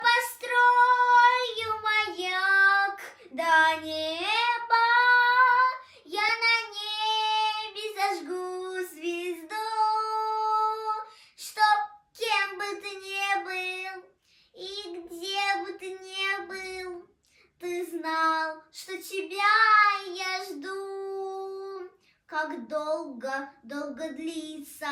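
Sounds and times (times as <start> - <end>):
girl singing: 0.0 - 24.9.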